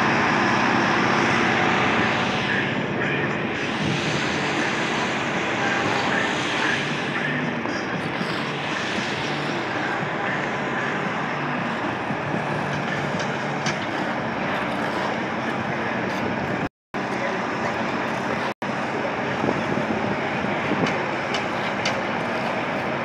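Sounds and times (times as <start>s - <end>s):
ice resurfacing machine engine: 0.0s - 23.0s.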